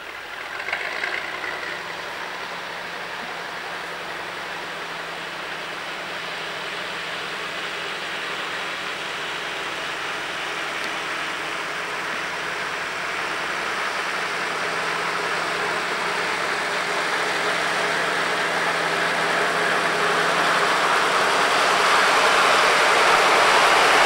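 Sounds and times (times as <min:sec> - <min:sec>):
diesel railcar engine running: 0:00.0 - 0:24.0.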